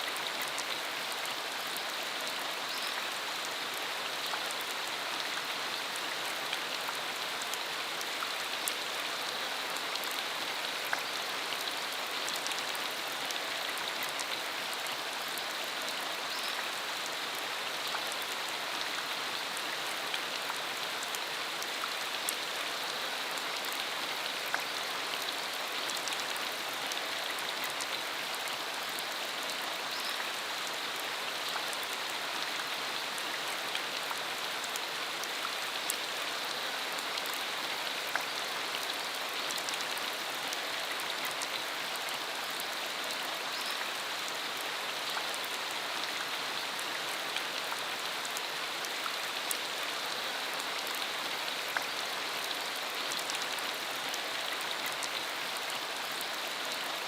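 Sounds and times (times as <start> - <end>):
rain falling on a road: 0.0 - 57.0.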